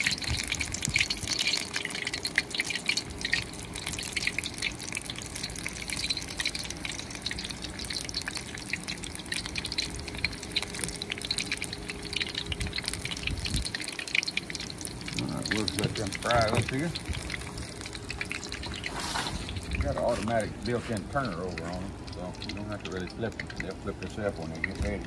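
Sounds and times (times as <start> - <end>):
hot oil sizzling and crackling: 0.0 - 25.0.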